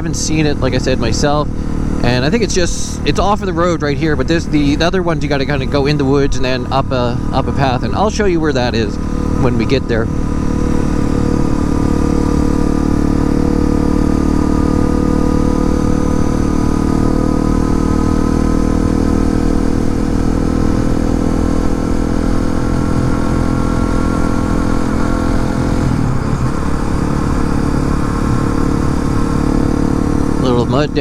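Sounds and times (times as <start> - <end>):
motorcycle engine running steadily: 0.0 - 31.0.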